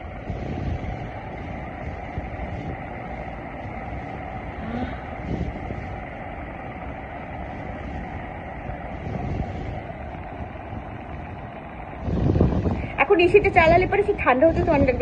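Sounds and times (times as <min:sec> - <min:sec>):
stand fan airflow rushing: 0:00.0 - 0:15.0.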